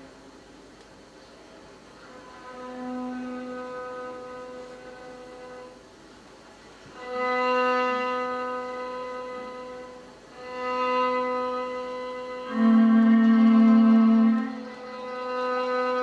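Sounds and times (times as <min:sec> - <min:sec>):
long bowed-string notes: 0:02.0 - 0:05.8, 0:06.9 - 0:16.0.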